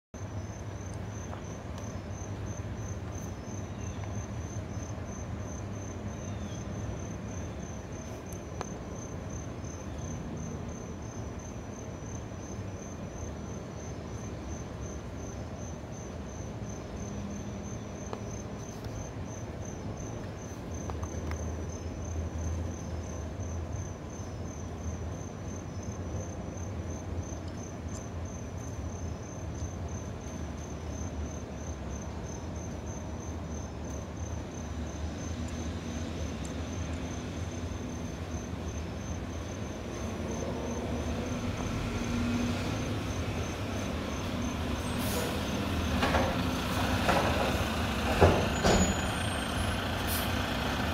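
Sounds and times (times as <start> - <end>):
cricket chirping: 0.2 - 50.9.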